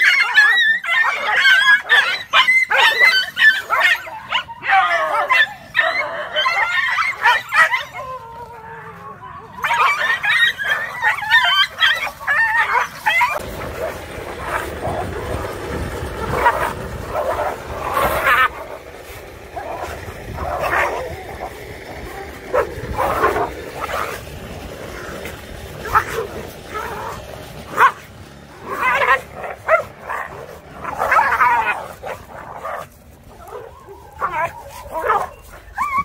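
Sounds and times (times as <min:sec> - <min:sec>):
dogs yelping and barking: 0:00.0 - 0:36.0
rumbling background noise: 0:00.0 - 0:36.0.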